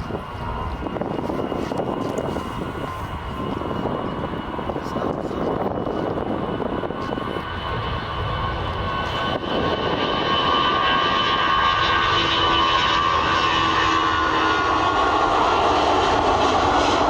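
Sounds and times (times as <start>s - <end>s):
airliner engines rumbling: 0.0s - 17.0s
high engine whine: 0.0s - 17.0s.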